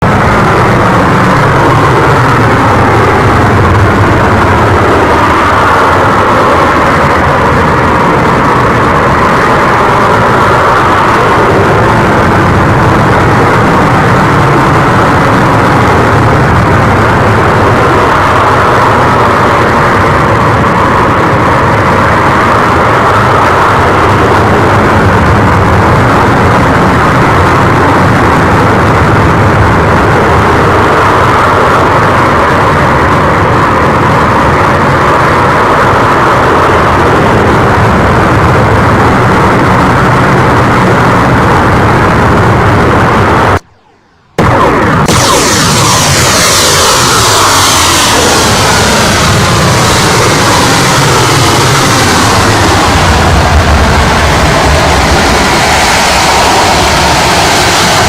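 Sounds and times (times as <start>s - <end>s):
model jet roar: 0.0s - 43.7s, 44.4s - 58.0s.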